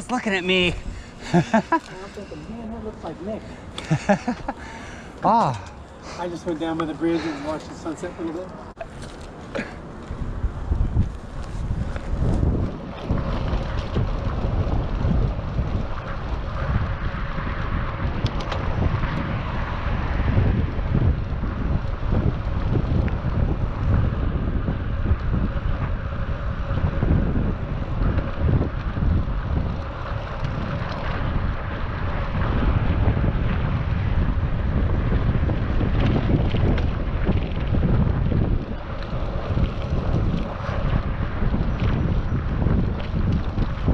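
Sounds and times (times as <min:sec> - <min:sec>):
rushing road noise: 0:00.0 - 0:43.9
wind buffeting microphone: 0:00.0 - 0:43.9.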